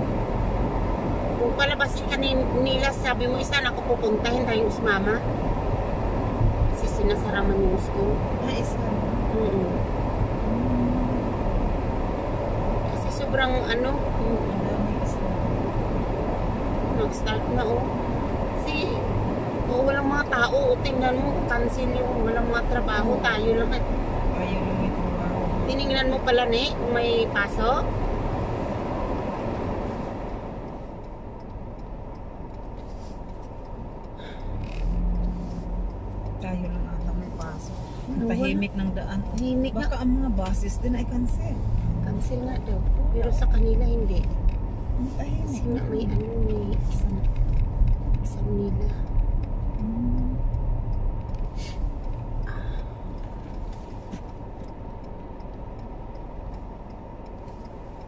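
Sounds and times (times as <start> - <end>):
low engine hum: 0.0 - 58.0
tyres and engine rumbling in car: 0.0 - 58.0.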